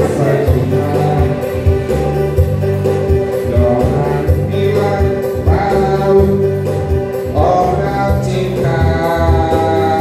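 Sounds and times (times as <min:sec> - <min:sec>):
man singing into microphone: 0:00.0 - 0:01.9, 0:03.4 - 0:10.0
electronic keyboard with beat: 0:00.0 - 0:10.0.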